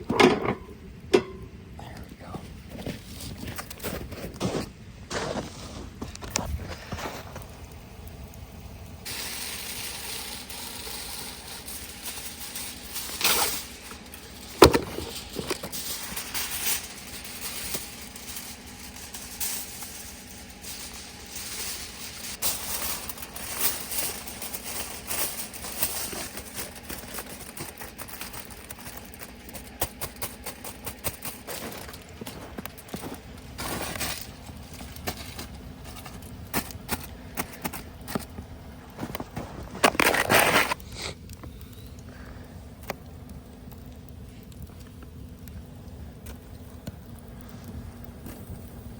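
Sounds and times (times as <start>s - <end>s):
truck idling hum: 0.0s - 48.9s
campfire crackling and popping: 0.7s - 48.9s.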